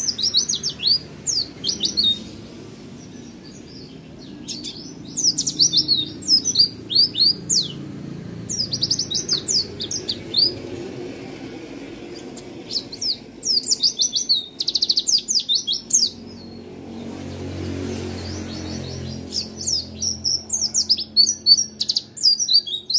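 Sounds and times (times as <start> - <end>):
bird singing high chirps: 0.0 - 10.7, 12.1 - 22.9.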